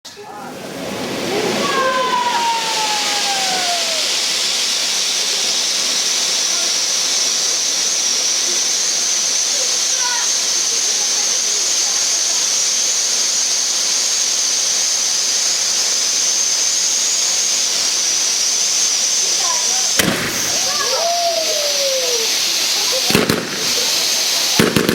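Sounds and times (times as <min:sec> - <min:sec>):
firework fountain hissing: 0:00.1 - 0:24.9.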